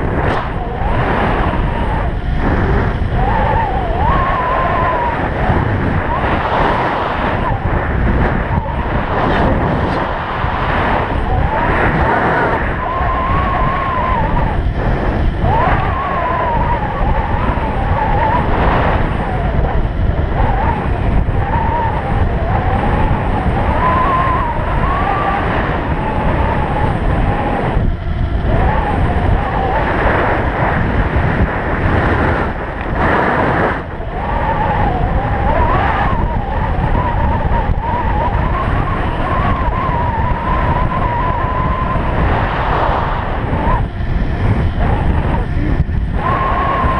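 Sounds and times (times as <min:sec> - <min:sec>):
electric bike motor whine: 0:00.0 - 0:46.9
heavy wind rush on microphone: 0:00.0 - 0:46.9.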